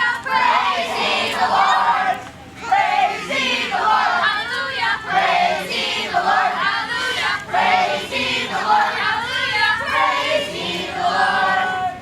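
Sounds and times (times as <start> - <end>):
crowd of children's voices: 0.0 - 12.0.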